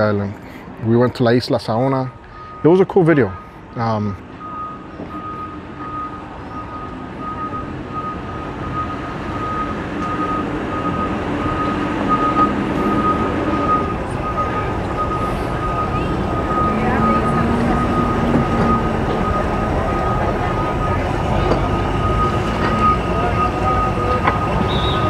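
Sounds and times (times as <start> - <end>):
engine rumbling: 0.0 - 25.0
vehicle backup alarm beeping: 1.8 - 25.0.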